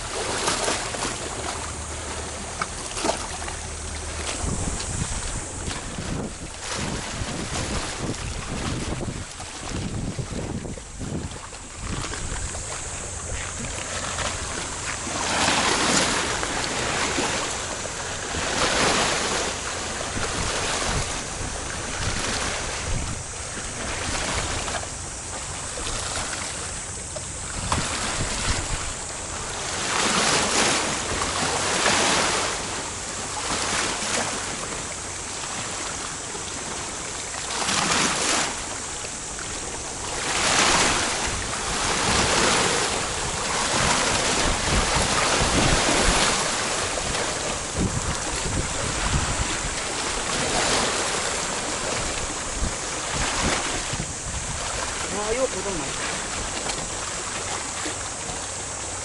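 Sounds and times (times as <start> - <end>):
waves washing on rocky shore: 0.0 - 59.0
wind buffeting microphone: 3.0 - 32.4, 37.7 - 57.1.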